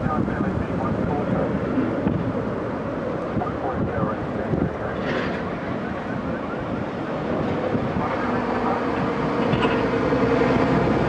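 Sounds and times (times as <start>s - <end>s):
airliner engines rumbling: 0.0s - 11.0s
engine hum: 0.0s - 11.0s.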